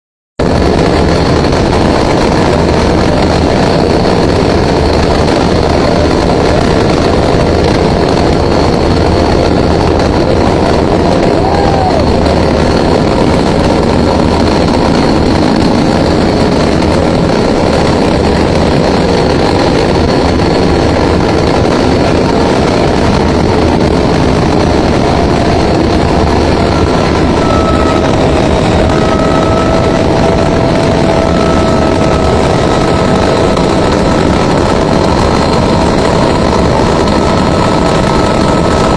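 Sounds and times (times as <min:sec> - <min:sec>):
helicopter rotor and engine noise: 0:00.4 - 0:38.9.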